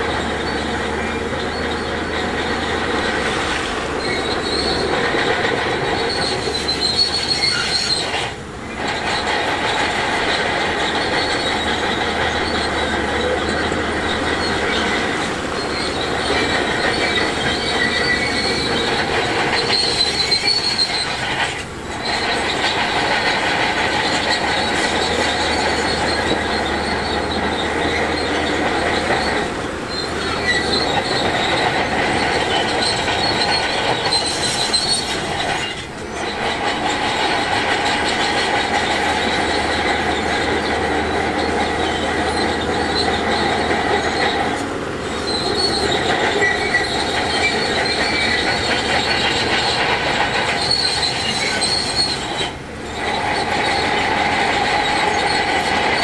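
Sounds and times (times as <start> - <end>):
bulldozer engine running: 0.0 - 56.0
steel tracks squealing and clattering: 0.0 - 56.0.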